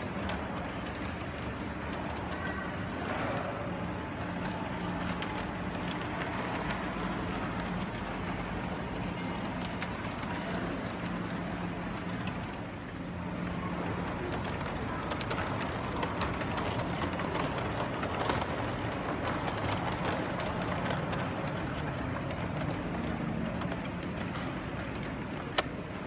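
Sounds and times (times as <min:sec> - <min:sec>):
background noise: 0:00.0 - 0:26.0
model train wheel noise: 0:00.0 - 0:26.0.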